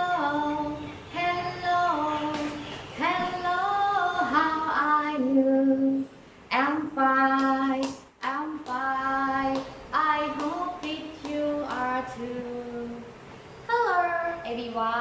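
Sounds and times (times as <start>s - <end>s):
unaccompanied high-voiced singing: 0.0s - 15.0s.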